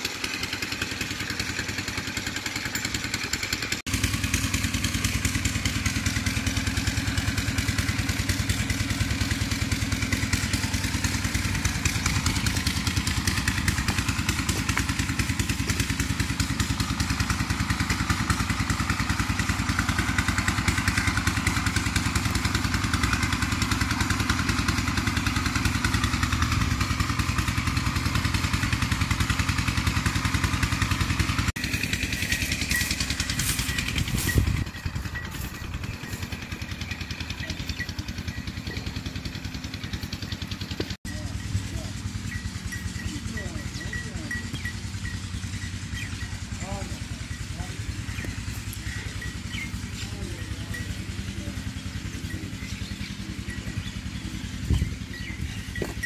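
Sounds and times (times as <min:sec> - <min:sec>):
small engine chugging: 0:00.0 - 0:56.0.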